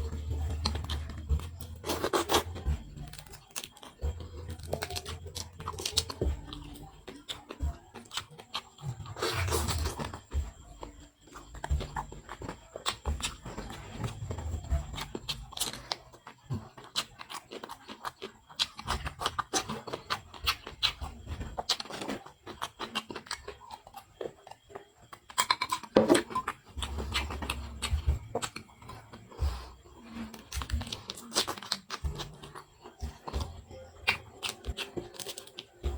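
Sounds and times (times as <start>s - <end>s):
wet chewing and smacking: 0.0s - 35.9s.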